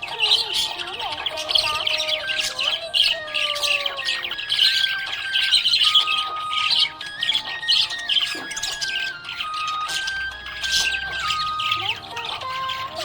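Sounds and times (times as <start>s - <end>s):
budgerigars chirping and warbling: 0.0s - 13.0s.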